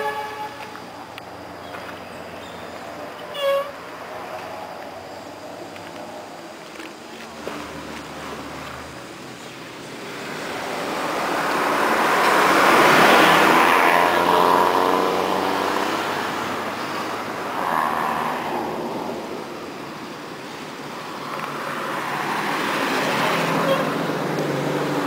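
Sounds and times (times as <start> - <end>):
motor vehicles passing: 0.0 - 25.0.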